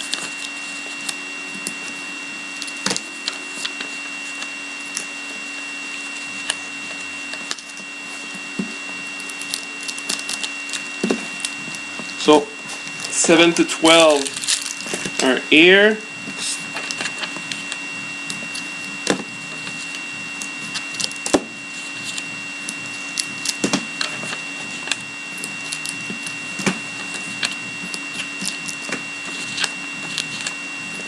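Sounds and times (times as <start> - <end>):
faint high whine: 0.0 - 31.0
low hum: 0.0 - 31.0.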